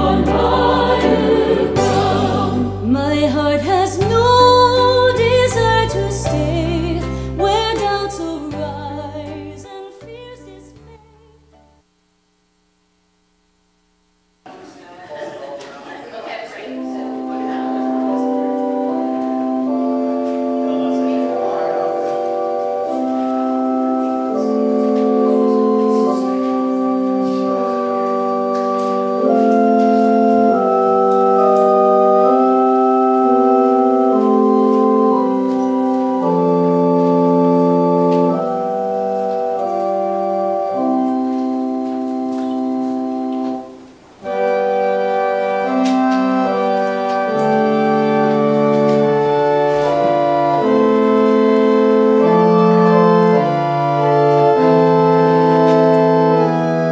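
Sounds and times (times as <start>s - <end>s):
organ playing sustained chords: 0.0s - 11.6s, 16.6s - 56.9s.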